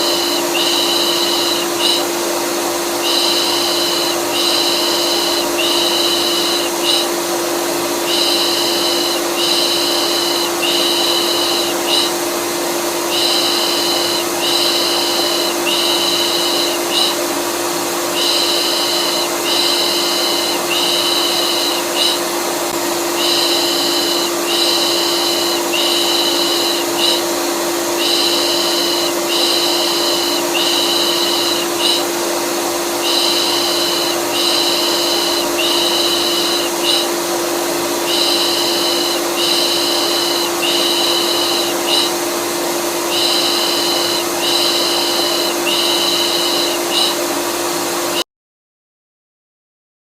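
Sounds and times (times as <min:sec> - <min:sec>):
vacuum cleaner running: 0:00.0 - 0:48.2.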